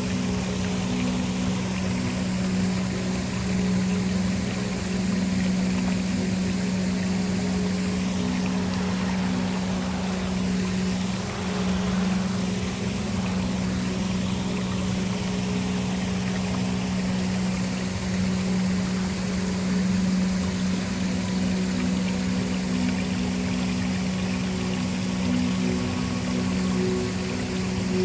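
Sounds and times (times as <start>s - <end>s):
low background drone: 0.0s - 28.0s
waterfall rushing: 0.0s - 28.0s.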